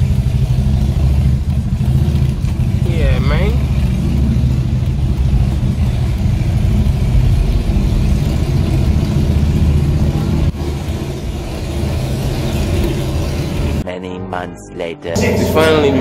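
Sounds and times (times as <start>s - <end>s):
car engine and road rumble: 0.0s - 13.9s, 15.2s - 16.0s.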